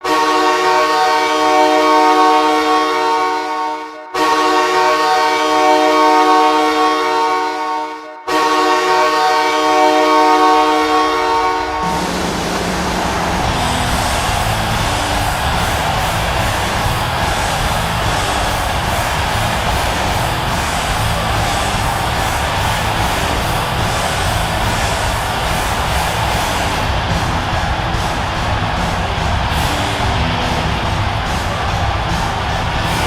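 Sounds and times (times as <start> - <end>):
arena goal horn blaring: 0.0 - 12.6, 13.5 - 33.0
arena crowd noise: 0.0 - 33.0.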